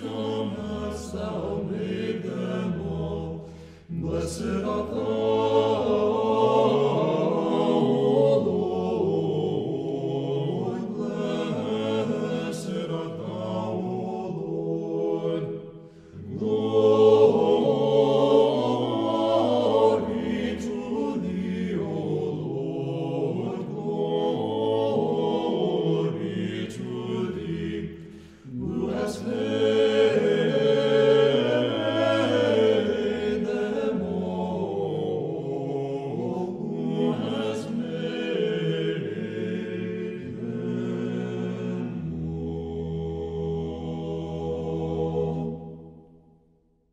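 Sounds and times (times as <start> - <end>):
choir chanting: 0.0 - 46.4.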